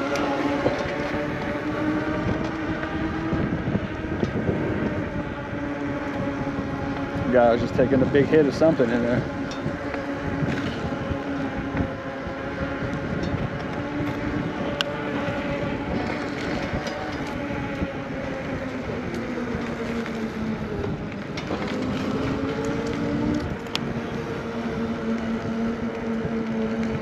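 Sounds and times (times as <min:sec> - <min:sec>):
electric bike motor hum: 0:00.0 - 0:27.0
wind noise: 0:00.0 - 0:27.0.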